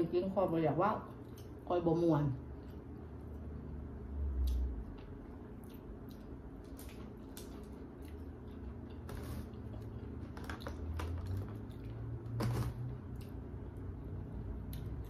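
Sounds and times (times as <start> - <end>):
person chewing: 1.2 - 1.6, 2.4 - 15.0.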